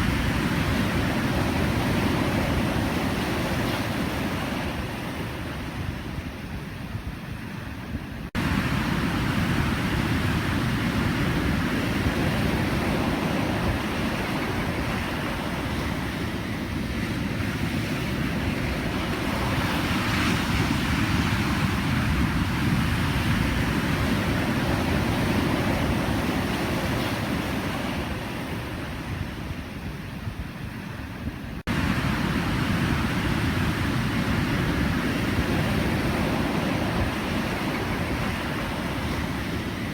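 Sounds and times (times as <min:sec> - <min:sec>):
ocean waves breaking: 0:00.0 - 0:06.7, 0:07.7 - 0:39.9.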